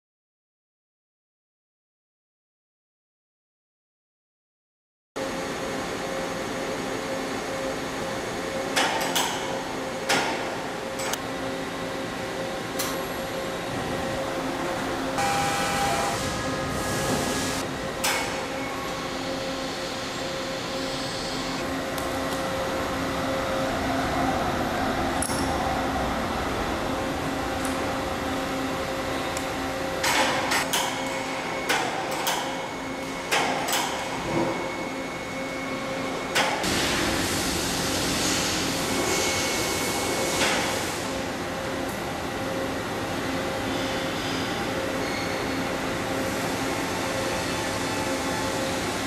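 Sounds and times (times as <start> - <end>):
machine shop hum: 5.2 - 49.0.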